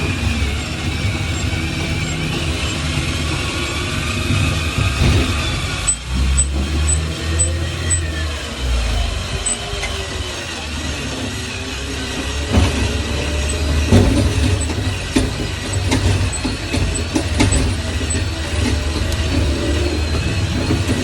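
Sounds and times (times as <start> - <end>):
drill running slowly: 0.0 - 21.0.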